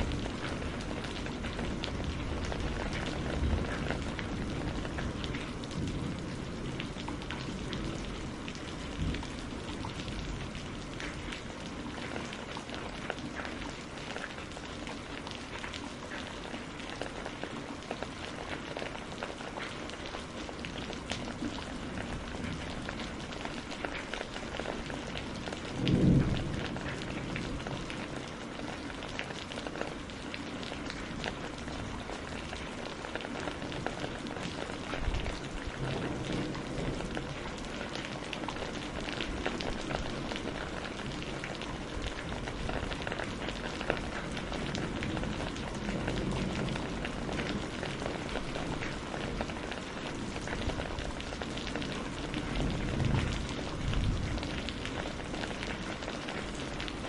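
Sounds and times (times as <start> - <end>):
thunder rumbling: 0.0 - 14.4, 20.5 - 28.8, 30.8 - 57.0
rain on a greenhouse: 0.0 - 57.0.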